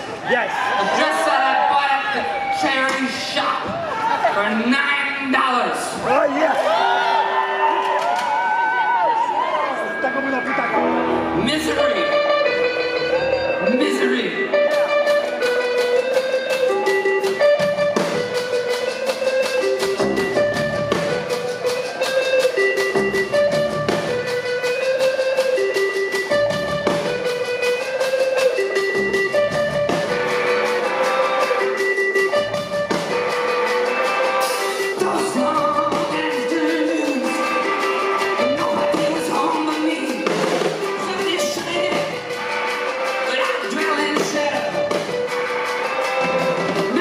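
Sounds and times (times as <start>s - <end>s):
drums: 0.0s - 47.0s
electric guitar: 5.7s - 47.0s.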